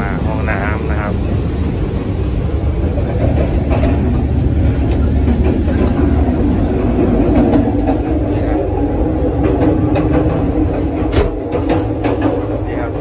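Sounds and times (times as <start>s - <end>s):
train carriage rumbling on rails: 0.0s - 13.0s.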